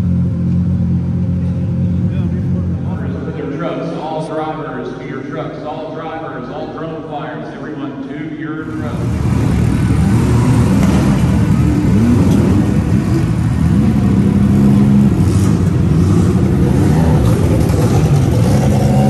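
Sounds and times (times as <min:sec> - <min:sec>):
vehicle engines revving: 0:00.0 - 0:19.0.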